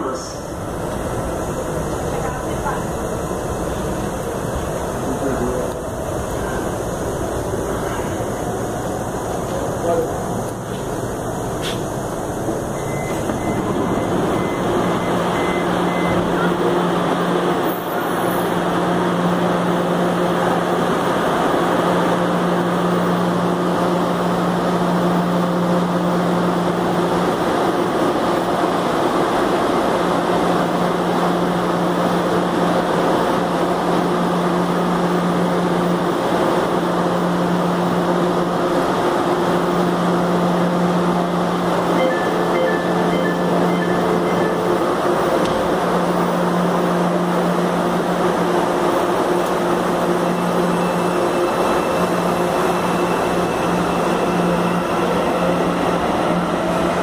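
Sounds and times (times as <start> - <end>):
metro train equipment hum: 0.0 - 57.0.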